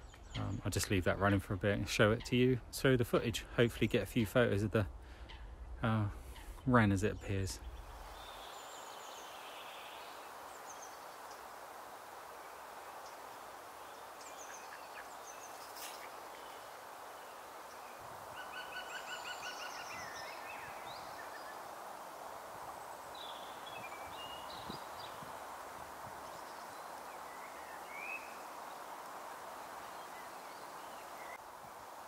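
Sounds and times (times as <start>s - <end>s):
background hiss: 0.0s - 32.0s
small birds chirping: 5.2s - 31.9s.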